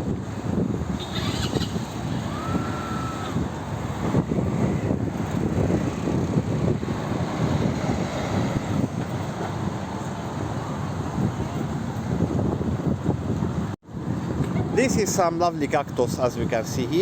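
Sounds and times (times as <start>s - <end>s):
traffic rumble: 0.0s - 17.0s
wind buffeting microphone: 0.0s - 17.0s.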